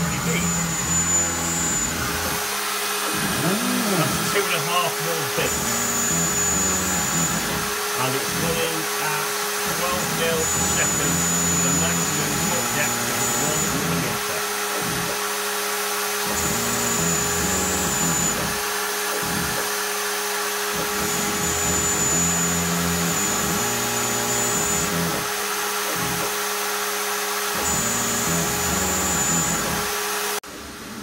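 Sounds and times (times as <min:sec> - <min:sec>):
router bit cutting plywood: 0:00.0 - 0:31.0
router spindle running: 0:00.0 - 0:31.0.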